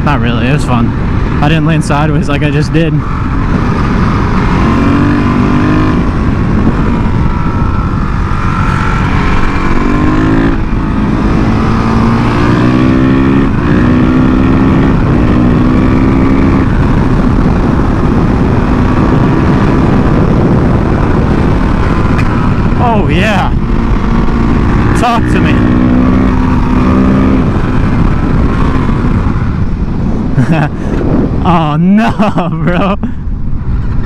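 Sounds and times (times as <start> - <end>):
motorcycle engine accelerating: 0.0 - 34.0
wind noise: 0.0 - 34.0.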